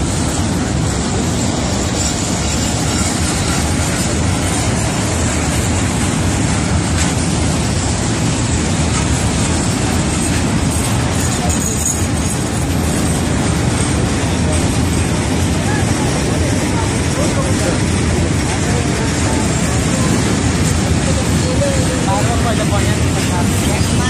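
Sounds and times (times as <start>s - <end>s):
train wheels running on rails: 0.0s - 24.0s.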